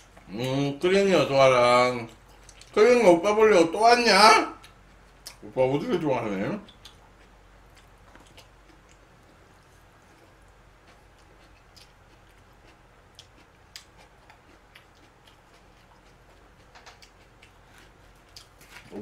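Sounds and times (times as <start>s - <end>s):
soft chewing: 0.0s - 0.8s, 1.9s - 2.8s, 4.5s - 19.0s
low steady hum: 0.0s - 19.0s.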